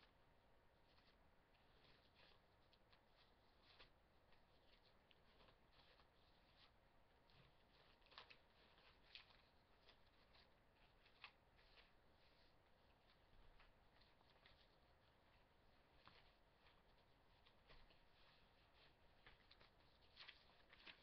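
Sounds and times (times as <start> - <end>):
binder pages rustling: 0.7 - 21.0.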